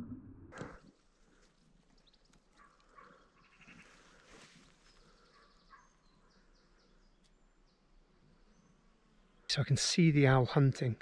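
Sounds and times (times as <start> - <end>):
distant small birds chirping: 0.8 - 10.6.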